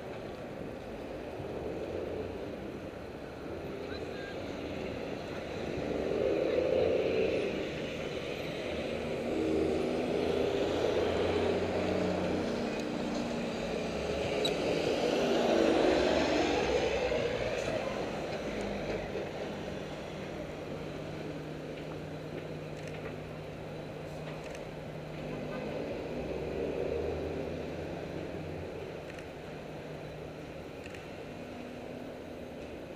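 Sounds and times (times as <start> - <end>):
vehicles passing: 0.0 - 32.9.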